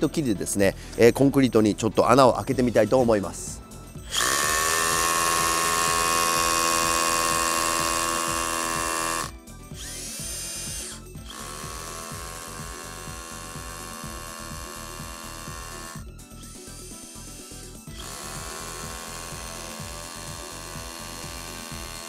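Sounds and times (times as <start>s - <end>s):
hammer drill boring into concrete: 4.1s - 22.0s.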